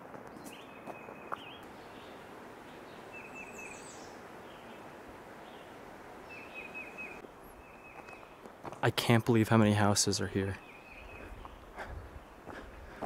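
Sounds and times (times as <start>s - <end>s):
outdoor background hiss: 0.0s - 13.0s
songbirds chirping: 0.0s - 13.0s.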